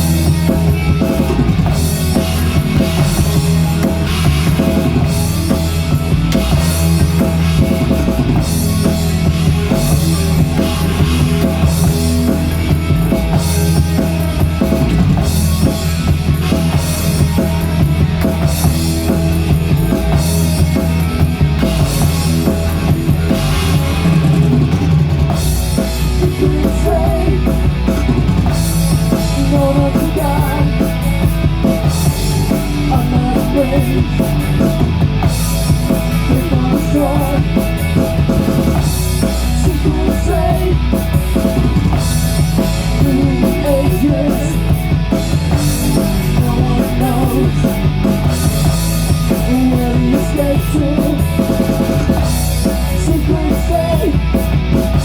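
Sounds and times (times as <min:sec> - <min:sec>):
drum kit: 0:00.0 - 0:55.0
rock band playing instrumental: 0:00.0 - 0:55.0.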